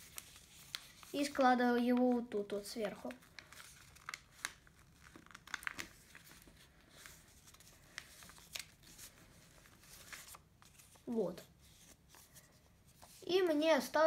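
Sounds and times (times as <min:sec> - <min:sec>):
paper rustling and crinkling: 0:00.0 - 0:13.6.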